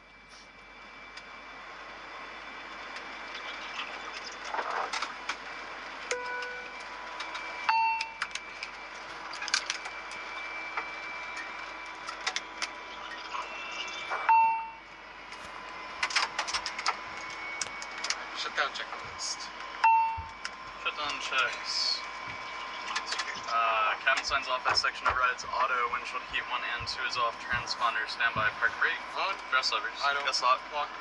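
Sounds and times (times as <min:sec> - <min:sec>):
cockpit hum: 0:00.0 - 0:31.0
airliner chime dings: 0:05.4 - 0:31.0.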